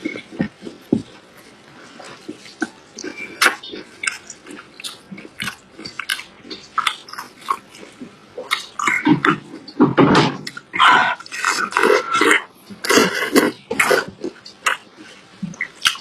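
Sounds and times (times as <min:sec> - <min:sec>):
mouth clicks and smacks: 0:00.0 - 0:16.0
person chewing food: 0:00.0 - 0:16.0.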